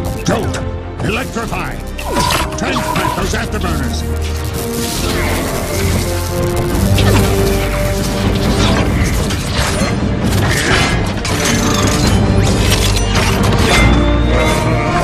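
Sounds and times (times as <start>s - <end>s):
orchestral score: 0.0s - 15.0s.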